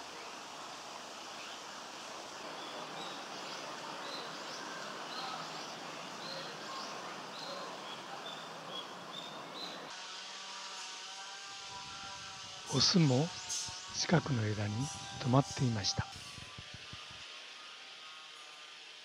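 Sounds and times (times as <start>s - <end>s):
woodland background hiss: 0.0s - 19.0s.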